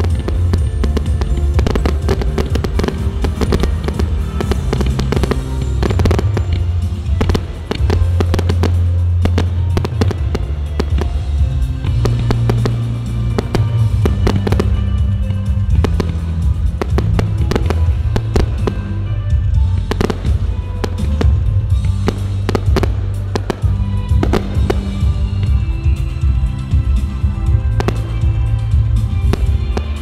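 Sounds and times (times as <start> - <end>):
fireworks banging and crackling: 0.0 - 30.0
loud music with heavy bass: 0.0 - 30.0.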